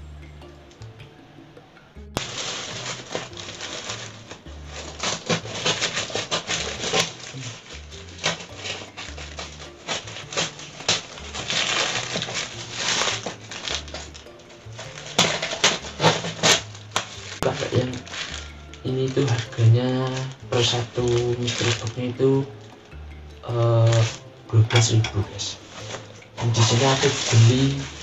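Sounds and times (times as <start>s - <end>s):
background music with bass: 0.0s - 28.0s
plastic bag crinkling: 2.2s - 28.0s.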